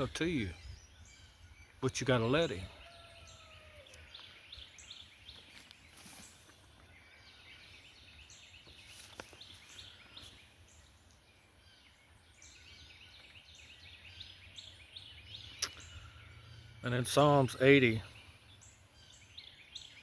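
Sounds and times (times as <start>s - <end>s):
faint birdsong chirps: 0.0s - 20.0s.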